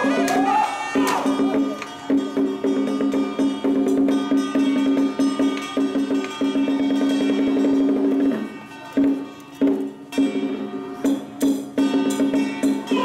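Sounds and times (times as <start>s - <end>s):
rapid wooden percussion strikes: 0.0s - 13.0s.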